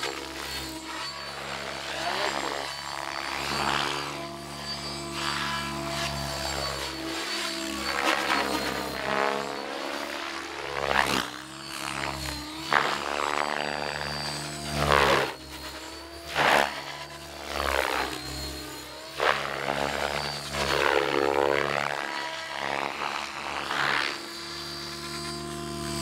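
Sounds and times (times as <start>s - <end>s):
rc helicopter rotor whine: 0.0s - 26.0s.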